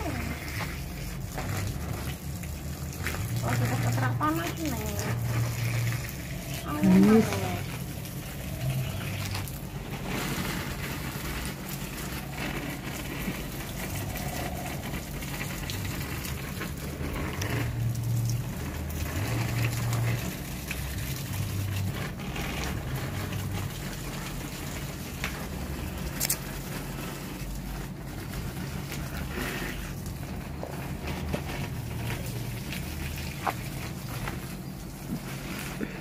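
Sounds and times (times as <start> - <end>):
steady low rumble: 0.0 - 36.0
water pattering on leaves: 0.0 - 36.0
water spraying from a hose: 0.0 - 36.0.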